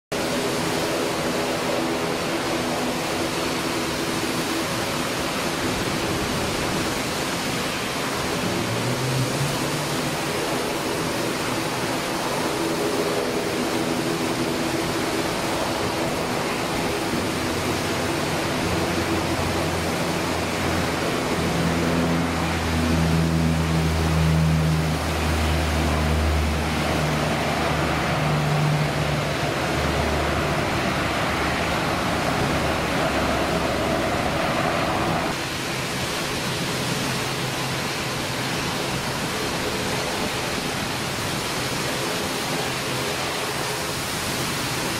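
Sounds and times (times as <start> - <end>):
turboprop plane taking off: 0.1 - 44.9.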